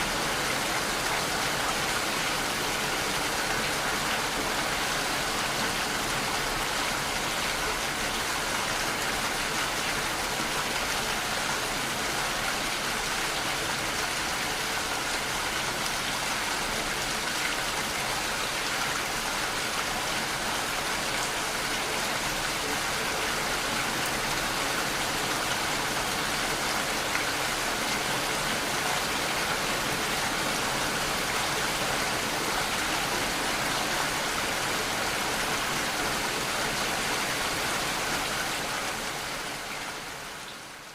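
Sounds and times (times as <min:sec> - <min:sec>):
steady rain-like hiss: 0:00.0 - 0:40.9.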